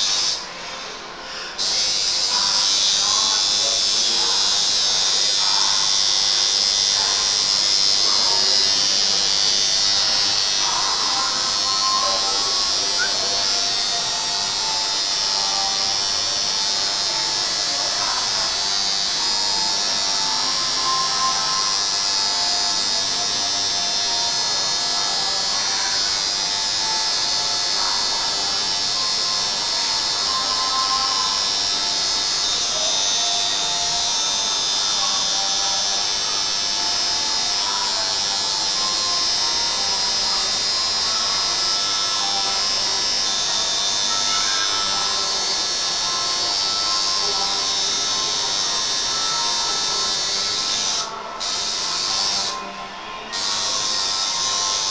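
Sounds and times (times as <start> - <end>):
music playing: 0.0 - 54.9
tattoo machine buzzing: 0.0 - 54.9.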